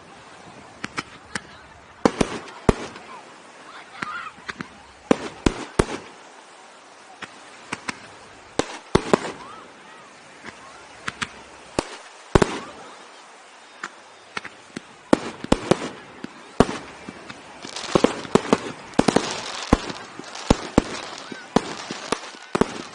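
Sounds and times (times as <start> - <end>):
fireworks bangs and crackling: 0.7 - 3.3, 3.9 - 6.3, 7.1 - 9.8, 10.4 - 13.1, 13.7 - 22.9.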